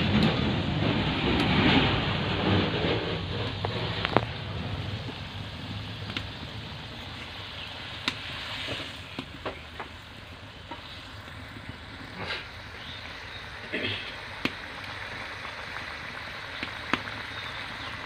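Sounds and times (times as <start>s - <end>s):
curry sizzling in pan: 3.4s - 18.0s.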